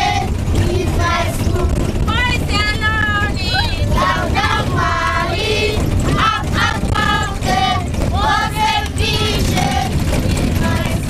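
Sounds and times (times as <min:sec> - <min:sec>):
children singing together: 0:00.0 - 0:01.9, 0:03.4 - 0:11.0
bus rumble: 0:00.0 - 0:11.0.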